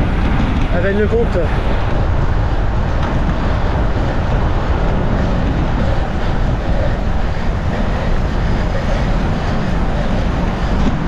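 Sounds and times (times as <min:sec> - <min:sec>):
tyre and road noise: 0:00.0 - 0:11.0
wind rush on microphone: 0:00.0 - 0:11.0.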